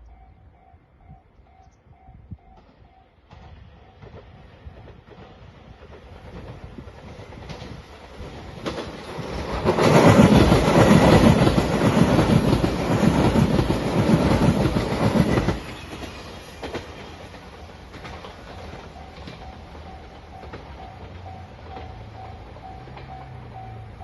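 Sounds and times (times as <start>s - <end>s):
train passing at speed: 0.0s - 24.0s
wheels clattering over rail joints: 4.0s - 24.0s.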